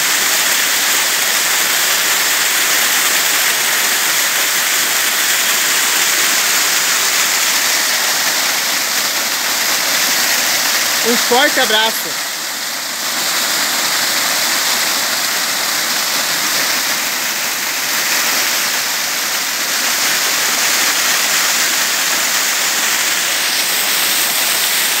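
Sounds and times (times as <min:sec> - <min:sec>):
water pouring over rocks: 0:00.0 - 0:25.0.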